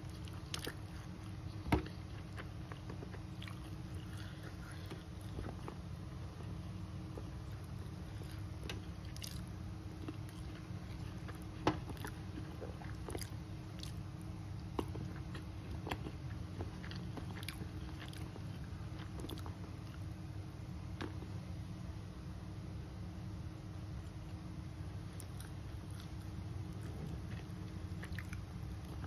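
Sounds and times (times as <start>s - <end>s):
person chewing food: 0.0s - 20.2s, 25.0s - 29.0s.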